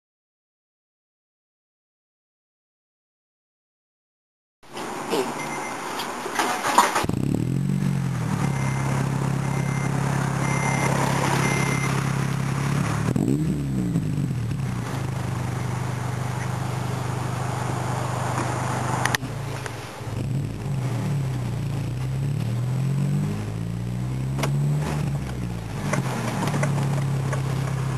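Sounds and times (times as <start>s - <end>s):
car engine idling and revving: 4.9s - 27.9s.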